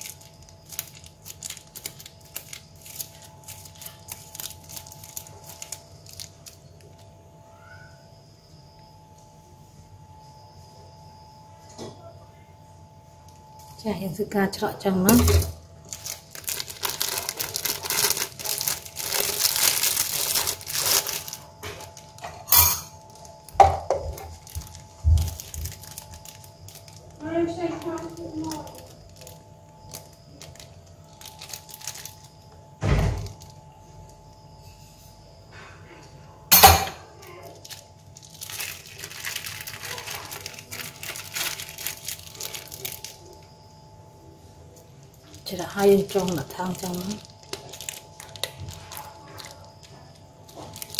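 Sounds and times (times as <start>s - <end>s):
plastic bags crinkling: 0.0s - 7.3s, 13.3s - 34.3s, 36.5s - 43.8s, 44.6s - 50.9s.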